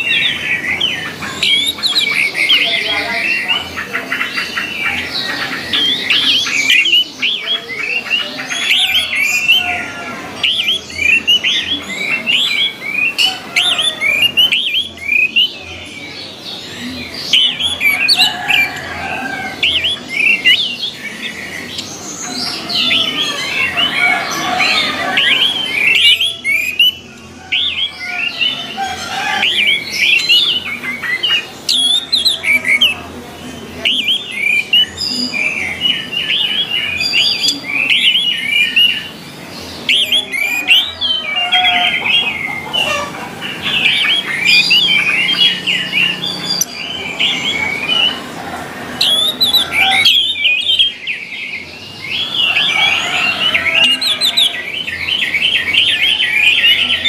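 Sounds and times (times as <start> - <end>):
thrushes singing: 0.0 - 57.0.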